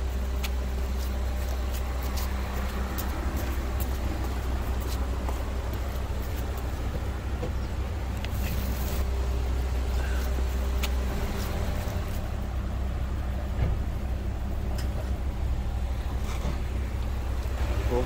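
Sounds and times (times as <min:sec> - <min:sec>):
low roadside rumble: 0:00.0 - 0:18.0.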